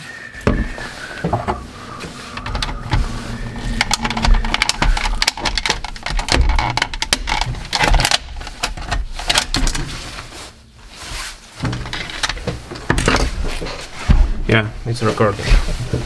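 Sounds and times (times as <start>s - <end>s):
plastic and metal parts rattling: 0.4s - 14.6s.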